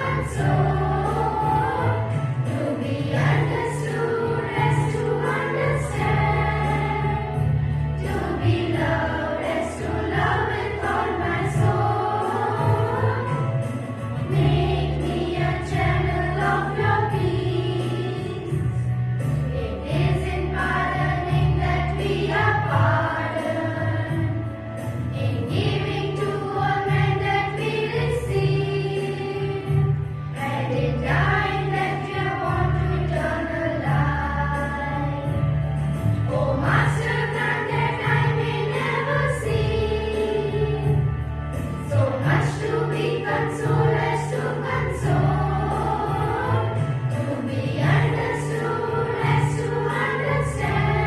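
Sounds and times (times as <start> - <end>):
choir singing a hymn: 0.0 - 51.0
low instrumental accompaniment: 0.0 - 51.0.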